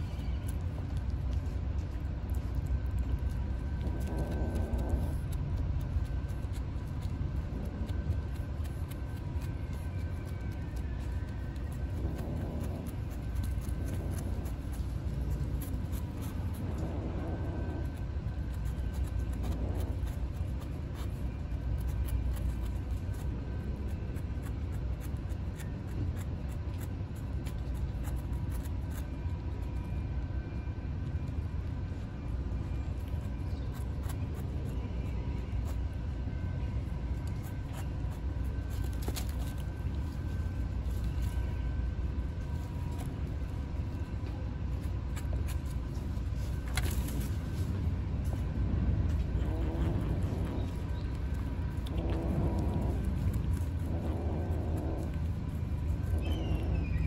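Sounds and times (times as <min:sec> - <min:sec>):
kittens licking and lapping: 0:00.0 - 0:57.0
low background rumble: 0:00.0 - 0:57.0.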